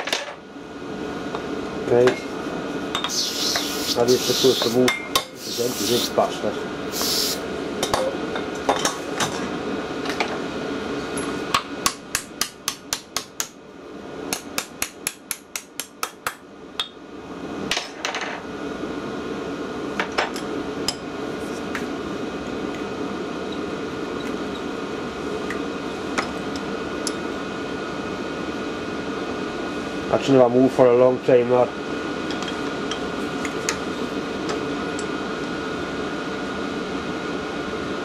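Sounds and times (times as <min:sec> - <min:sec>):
fan hum: 0:00.0 - 0:38.0.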